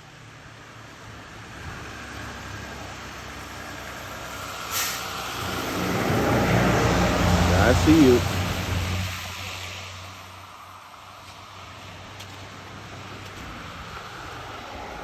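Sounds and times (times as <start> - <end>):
road noise: 0.0 - 15.0
vehicle engine approaching: 0.2 - 15.0.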